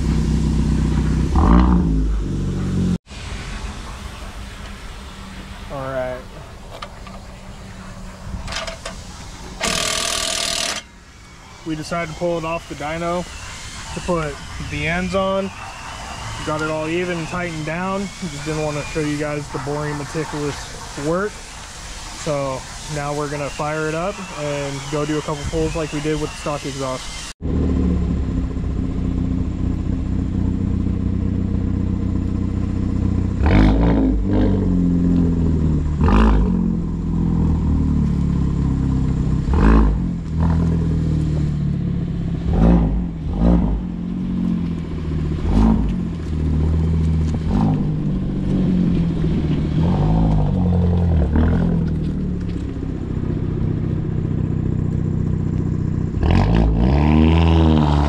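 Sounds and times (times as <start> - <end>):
car engine revving: 0.0 - 3.0, 5.3 - 58.0
exhaust cracks: 0.0 - 58.0.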